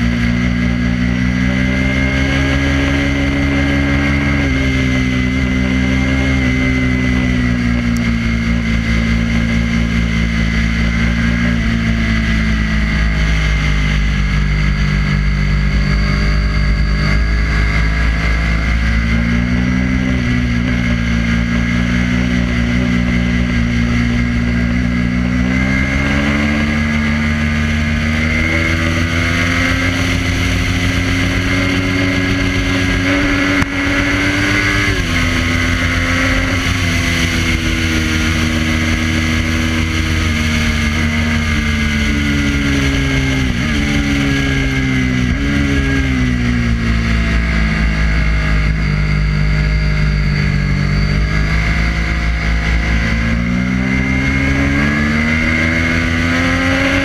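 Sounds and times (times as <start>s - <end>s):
motorcycle engine revving hard: 0.0s - 57.0s
wind and road noise: 0.0s - 57.0s.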